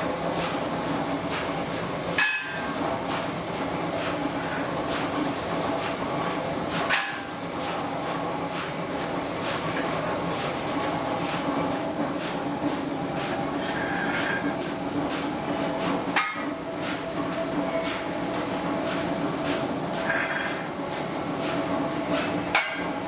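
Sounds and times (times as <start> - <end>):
shop machinery running: 0.0 - 23.0.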